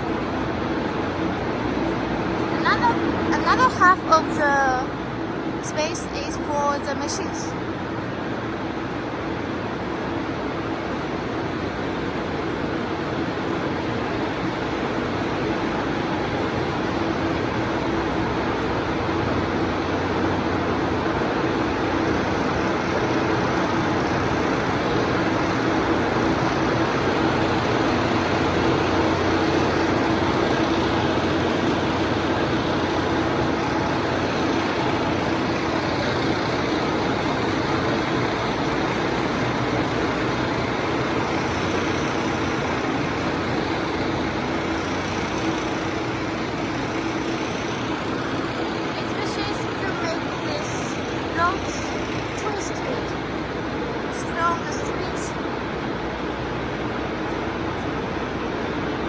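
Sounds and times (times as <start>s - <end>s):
constant machine hum: 0.0s - 59.0s.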